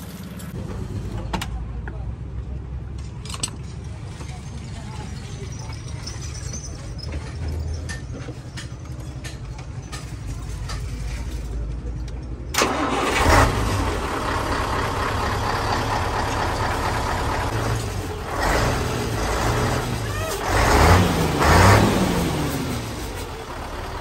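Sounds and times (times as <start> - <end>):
diesel truck engine rumbling: 0.0 - 24.0.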